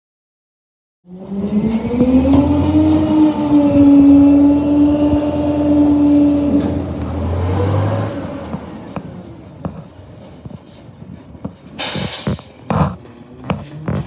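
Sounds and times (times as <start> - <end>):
truck engine rumble: 1.1 - 14.0.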